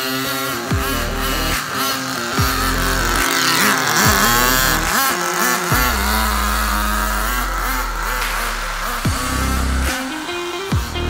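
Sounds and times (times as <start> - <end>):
small nitro engine revving: 0.0 - 11.0.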